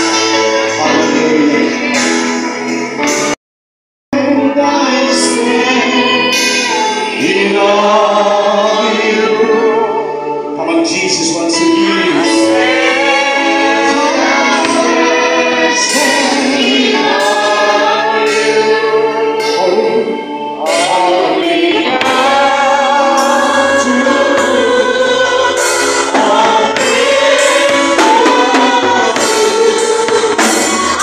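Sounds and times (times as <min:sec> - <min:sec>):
women singing gospel: 0:04.4 - 0:31.0.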